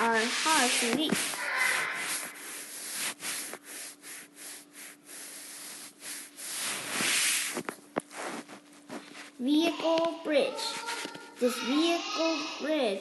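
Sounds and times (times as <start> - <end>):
rubbing and rustling scrapes: 0.0 - 12.3
faint steady hum: 0.0 - 13.0.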